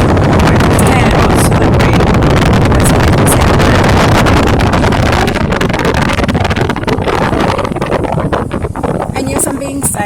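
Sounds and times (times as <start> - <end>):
truck engine: 0.0 - 9.4
splashing water: 0.0 - 10.0
wind buffeting microphone: 0.0 - 10.0.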